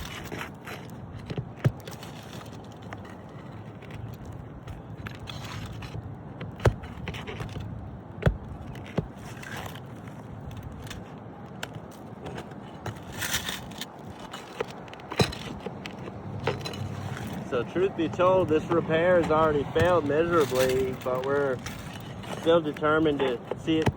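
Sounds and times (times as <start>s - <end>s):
scraping on roof shingles: 0.0s - 23.9s.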